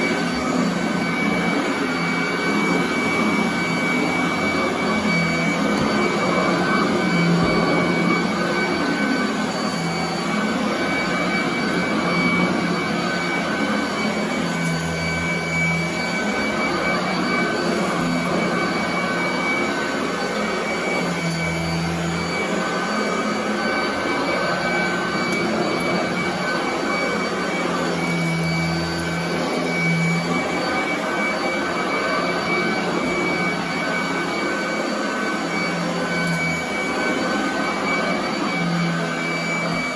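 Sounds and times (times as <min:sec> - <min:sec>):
vacuum cleaner whine: 0:00.0 - 0:39.9.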